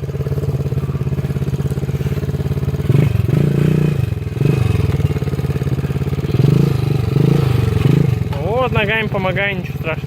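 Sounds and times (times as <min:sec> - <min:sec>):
motorbike engine revving: 0:00.0 - 0:09.9.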